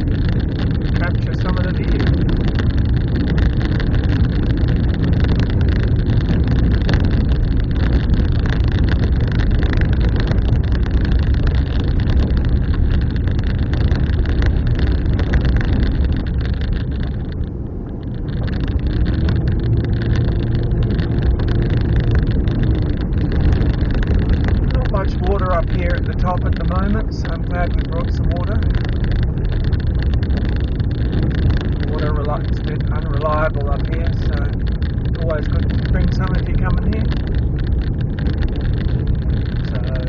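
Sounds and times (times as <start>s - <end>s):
car engine and road rumble: 0.0s - 40.0s.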